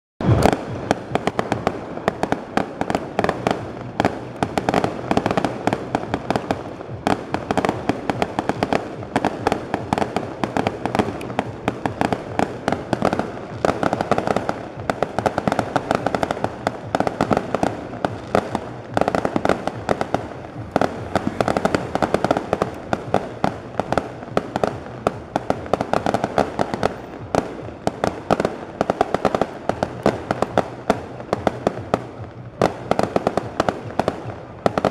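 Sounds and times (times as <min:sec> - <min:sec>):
fireworks bangs and crackling: 0:00.2 - 0:34.9.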